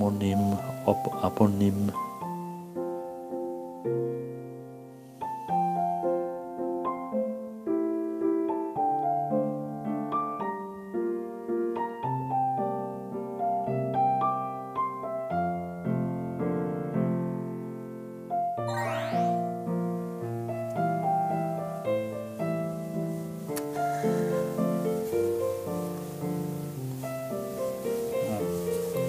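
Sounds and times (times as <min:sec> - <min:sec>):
slow piano music: 0:00.0 - 0:29.0.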